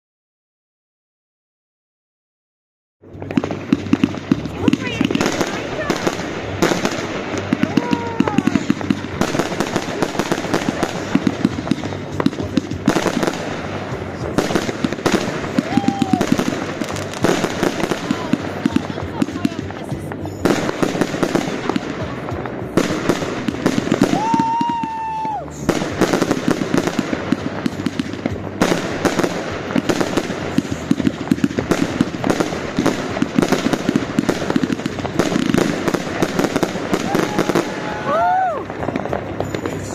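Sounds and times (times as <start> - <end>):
firework pops and crackles: 3.0 - 39.9
loud firework bursts: 3.0 - 39.9.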